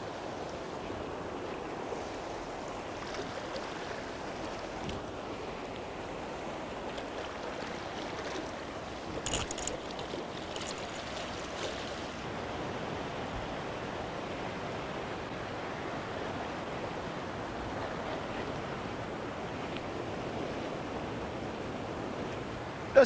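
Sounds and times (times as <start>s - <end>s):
stream rapids rushing: 0.0s - 23.0s.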